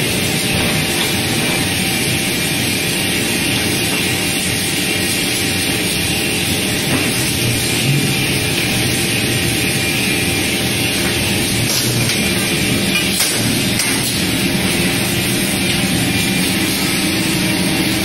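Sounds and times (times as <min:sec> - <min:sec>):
loud machine noise with low hum: 0:00.0 - 0:18.0.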